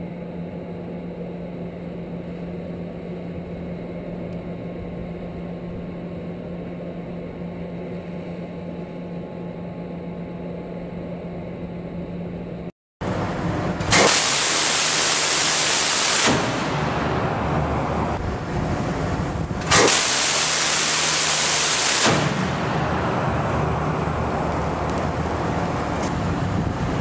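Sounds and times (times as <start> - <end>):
low machinery hum: 0.0 - 27.0.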